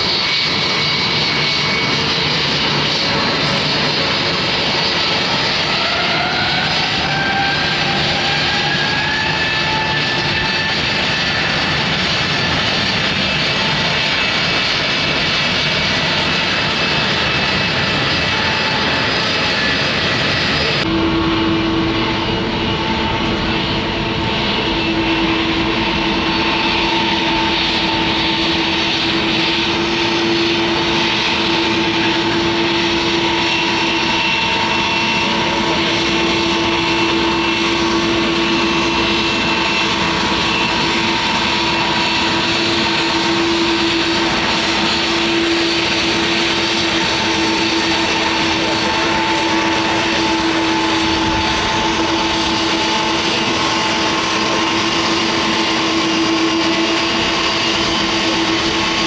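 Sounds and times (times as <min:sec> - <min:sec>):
airliner engines running: 0:00.0 - 0:59.0.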